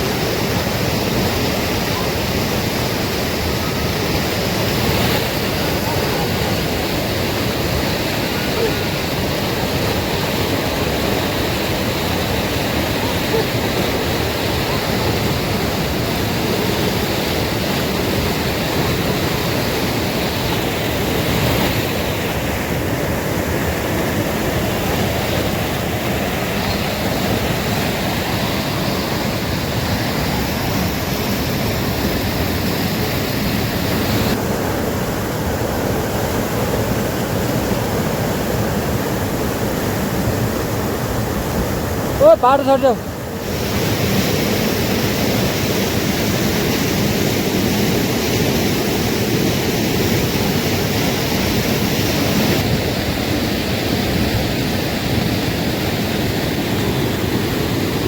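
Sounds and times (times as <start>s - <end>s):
fast-flowing river rushing: 0.0s - 58.0s.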